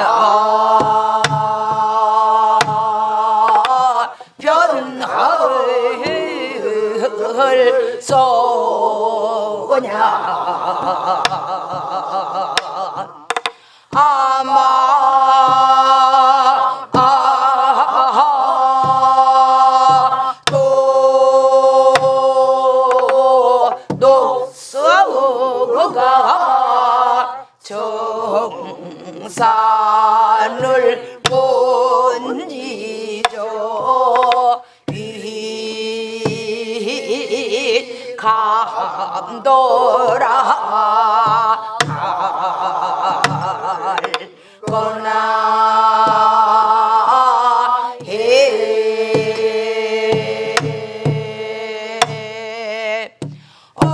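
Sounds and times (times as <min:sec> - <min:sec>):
group singing in unison: 0:00.0 - 0:53.9.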